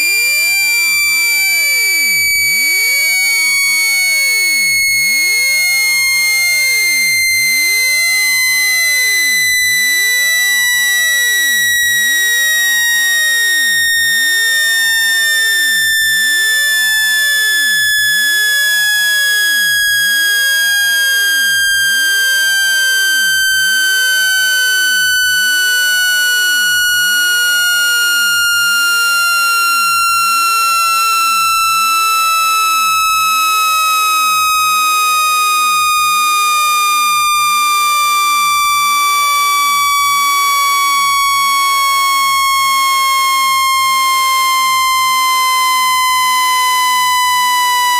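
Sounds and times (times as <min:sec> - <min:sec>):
electronic tone sweeping down: 0:00.8 - 0:47.9.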